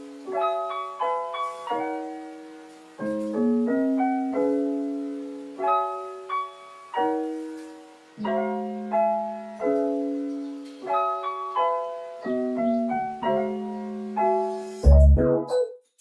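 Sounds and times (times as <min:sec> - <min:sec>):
slow solo piano: 0:00.0 - 0:15.5.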